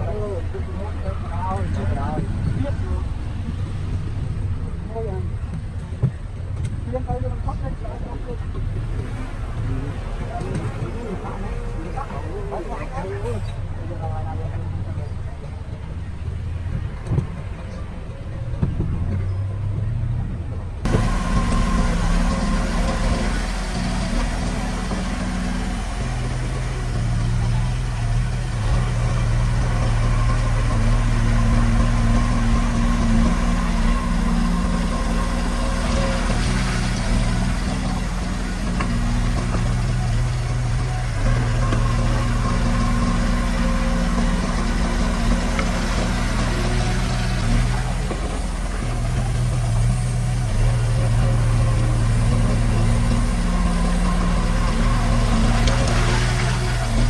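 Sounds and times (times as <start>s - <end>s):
heavy machinery diesel engine running: 0.0s - 57.0s.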